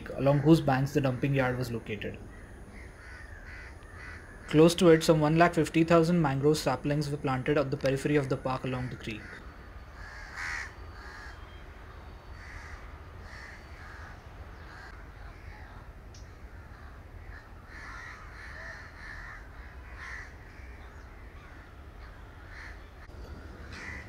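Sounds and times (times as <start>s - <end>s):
birds calling harshly: 0.0s - 24.0s.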